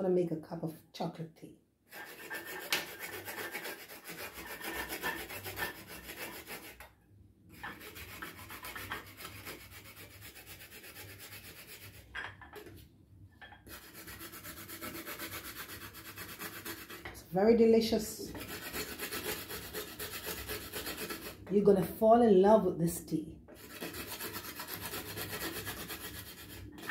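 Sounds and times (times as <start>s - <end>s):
chocolate grated on metal grater: 1.9s - 12.1s, 13.6s - 21.6s, 23.5s - 26.9s.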